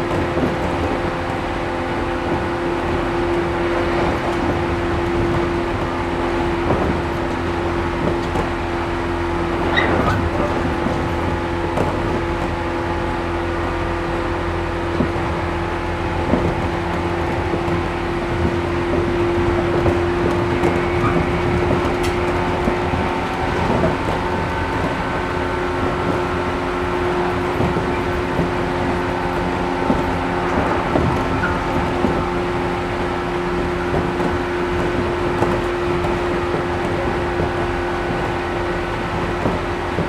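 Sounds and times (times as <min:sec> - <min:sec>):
train motor and gear hum: 0:00.0 - 0:40.0
wheels rumbling on rails: 0:00.0 - 0:40.0.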